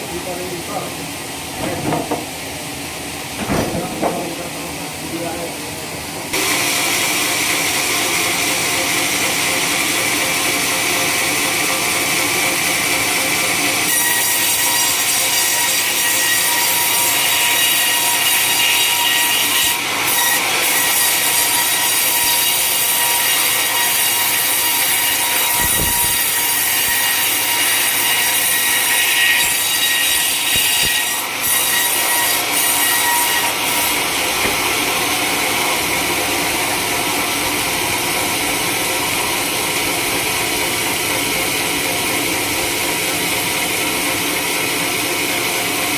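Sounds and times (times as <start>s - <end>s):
sawmill blade cutting log: 6.3s - 45.9s.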